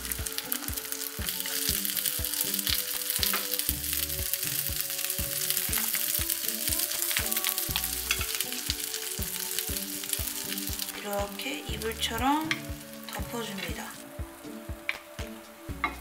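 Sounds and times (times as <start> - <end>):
background music with beat: 0.0 - 16.0
food sizzling in frying pan: 0.0 - 16.0.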